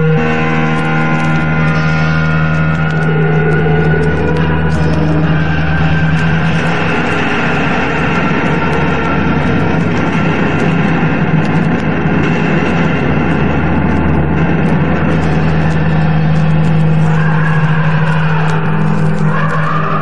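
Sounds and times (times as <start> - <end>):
rock music with distorted guitars: 0.0 - 20.0.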